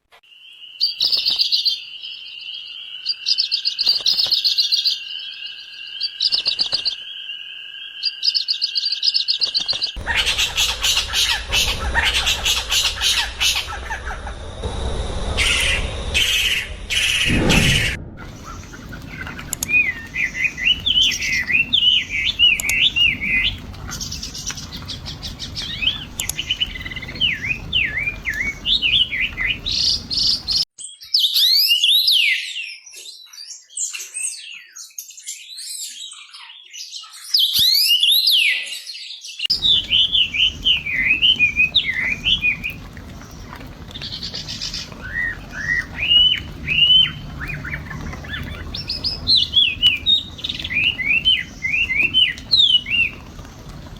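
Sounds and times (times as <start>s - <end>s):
birds chirping and twittering: 0.3s - 53.9s
higher sweeping bird calls: 0.6s - 30.6s, 39.5s - 53.7s.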